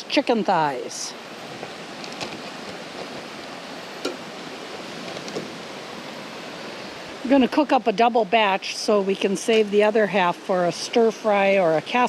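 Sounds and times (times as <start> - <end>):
mountain creek rushing: 0.0 - 12.0.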